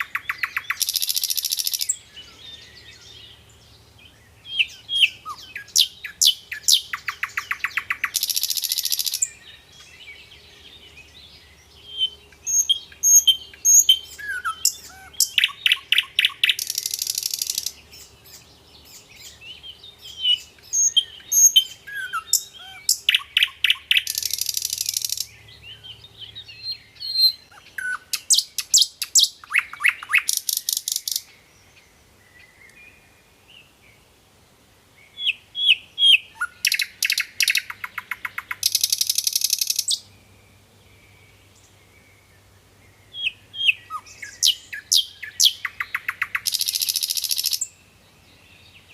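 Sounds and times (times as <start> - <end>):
birds chirping and whistling: 0.0 - 33.1, 35.1 - 42.3, 42.9 - 48.9.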